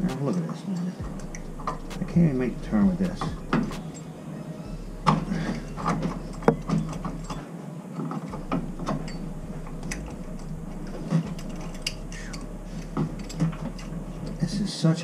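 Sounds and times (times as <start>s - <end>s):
low steady hum: 0.0s - 7.5s, 8.3s - 15.0s.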